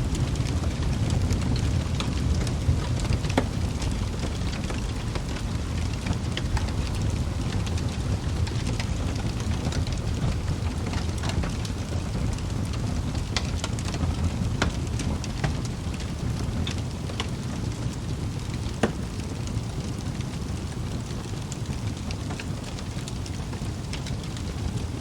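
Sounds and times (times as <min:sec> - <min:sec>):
logs crackling and popping: 0:00.0 - 0:25.0
low rumble of flames: 0:00.0 - 0:25.0.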